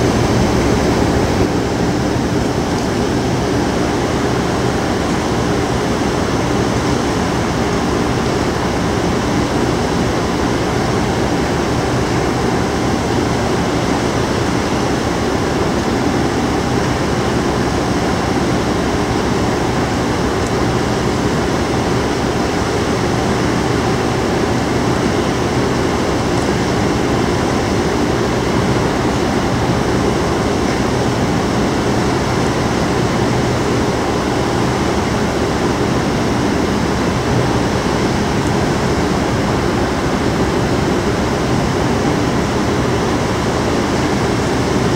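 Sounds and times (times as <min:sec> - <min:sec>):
ship machinery humming: 0:00.0 - 0:44.9.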